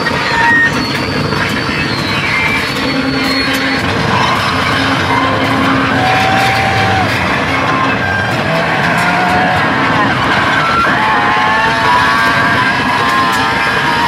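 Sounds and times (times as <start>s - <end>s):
harsh distorted noise music: 0.0s - 14.0s.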